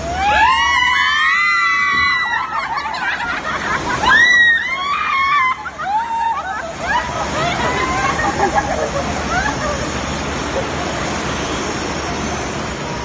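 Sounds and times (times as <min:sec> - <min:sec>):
riders screaming: 0:00.0 - 0:10.8
rushing water: 0:00.0 - 0:13.0.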